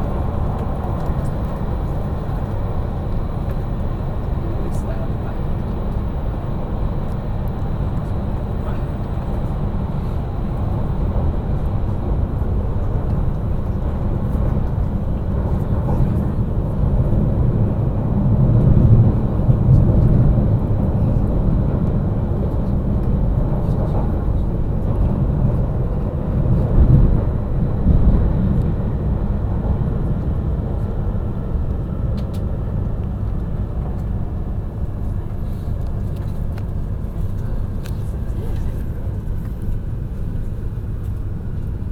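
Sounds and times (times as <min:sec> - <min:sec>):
train rumble inside cabin: 0:00.0 - 0:41.9.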